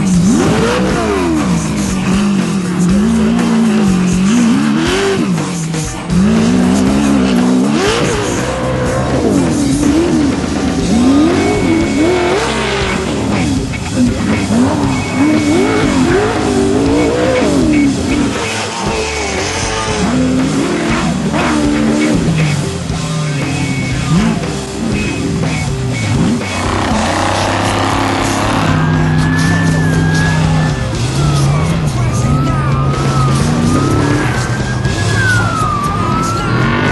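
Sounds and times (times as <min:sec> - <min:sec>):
race engine revving: 0:00.0 - 0:36.9.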